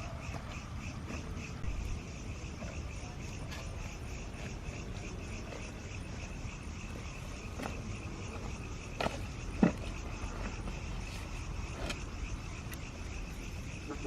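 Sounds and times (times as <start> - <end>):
low background rumble: 0.0 - 13.9
insects chirping in pulsing trill: 0.0 - 14.0.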